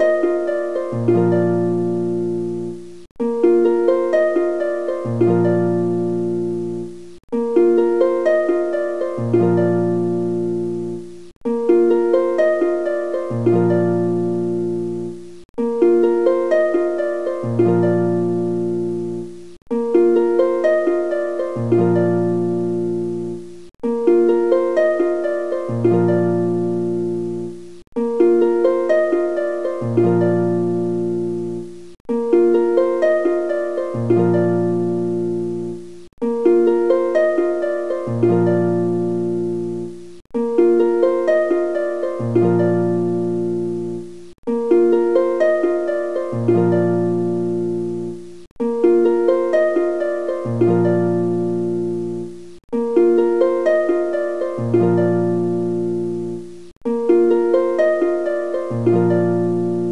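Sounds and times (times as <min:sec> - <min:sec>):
plucked harp-like music: 0:00.0 - 0:59.9.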